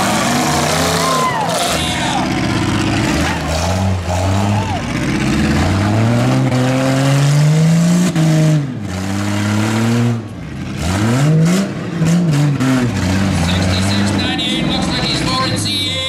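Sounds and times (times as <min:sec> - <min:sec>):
truck engines revving hard: 0:00.0 - 0:16.0.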